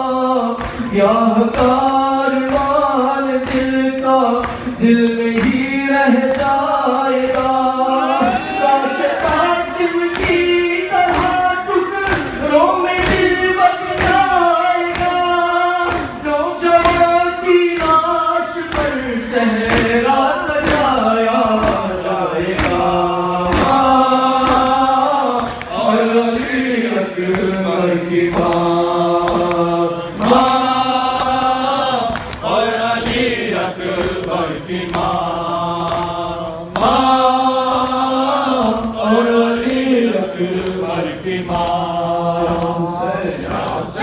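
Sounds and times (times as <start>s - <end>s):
man chanting through a microphone: 0.0s - 44.0s
voices chanting in chorus: 0.0s - 44.0s.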